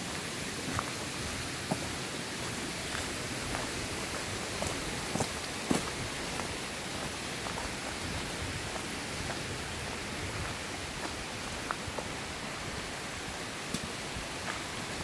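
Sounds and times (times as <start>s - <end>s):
faint footsteps on wet tarmac: 0.0s - 15.0s
stream rushing: 0.0s - 15.0s.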